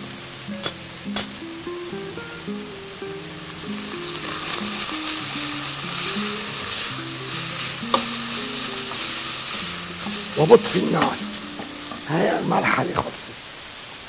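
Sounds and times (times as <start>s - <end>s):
meat sizzling in a saucepan: 0.0s - 14.0s.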